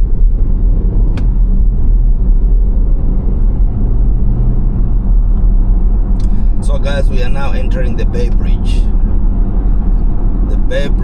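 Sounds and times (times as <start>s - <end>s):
car driving rumble from cabin: 0.0s - 11.0s.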